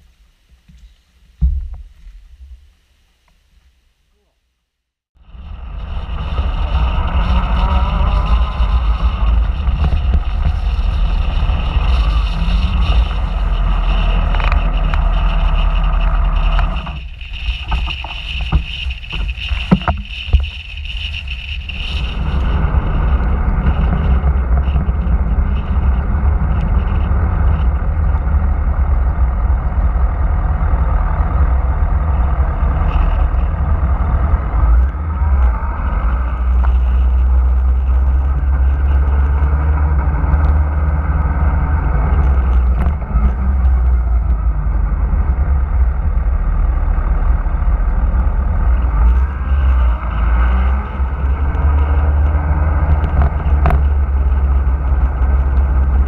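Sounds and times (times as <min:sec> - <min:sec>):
motorcycle engine running: 0:05.2 - 0:56.0
wind rumble on microphone: 0:05.2 - 0:56.0.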